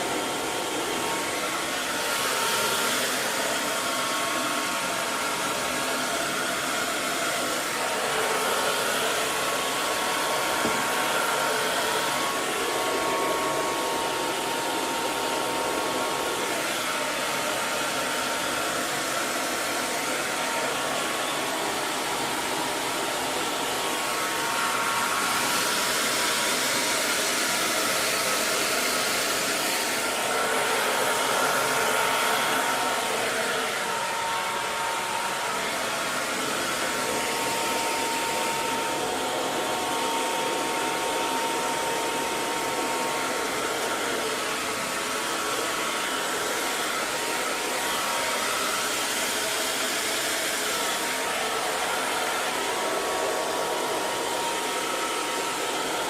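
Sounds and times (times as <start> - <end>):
hair dryer blowing air: 0.0 - 56.0.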